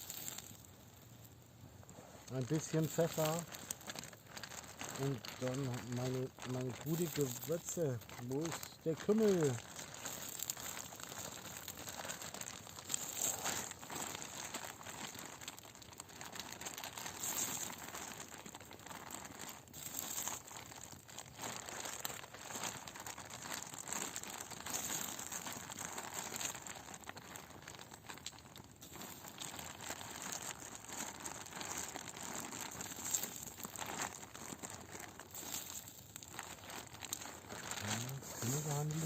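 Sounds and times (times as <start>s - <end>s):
food sizzling over campfire: 0.0s - 1.4s, 2.0s - 21.4s, 22.0s - 39.0s.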